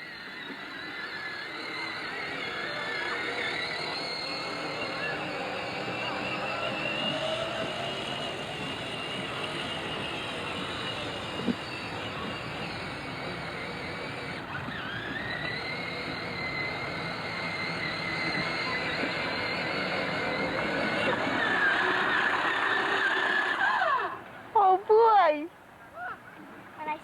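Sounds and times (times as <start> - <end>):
small motor whine: 0.0 - 25.1.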